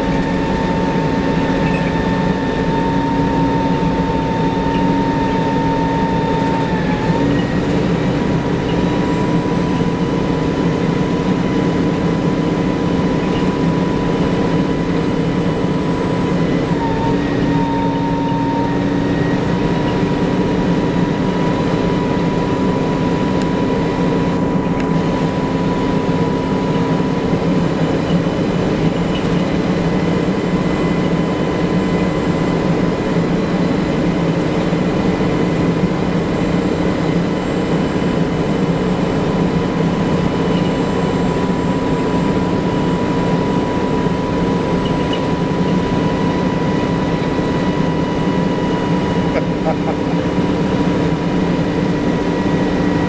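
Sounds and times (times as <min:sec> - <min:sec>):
bus engine rumble: 0:00.0 - 0:53.0
transmission whine: 0:00.0 - 0:53.0.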